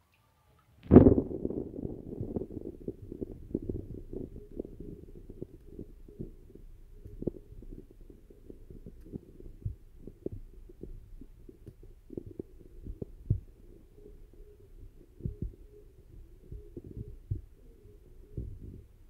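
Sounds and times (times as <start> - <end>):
wind buffeting microphone: 0.8 - 19.0.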